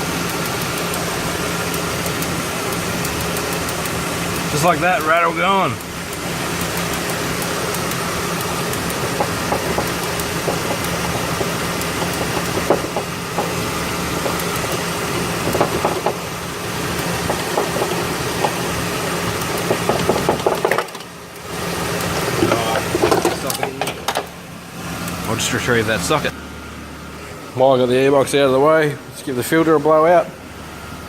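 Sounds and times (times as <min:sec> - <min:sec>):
van engine idling: 0:00.0 - 0:31.0.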